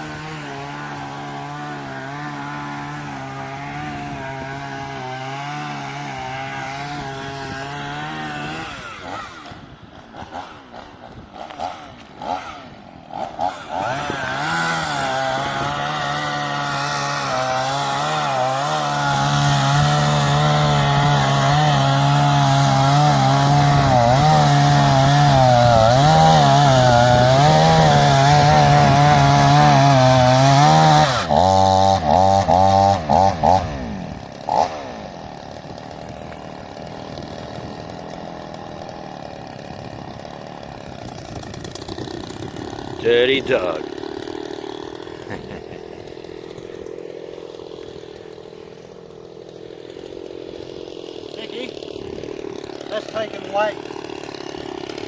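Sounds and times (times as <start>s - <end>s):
chainsaw cutting logs: 0.0s - 55.0s.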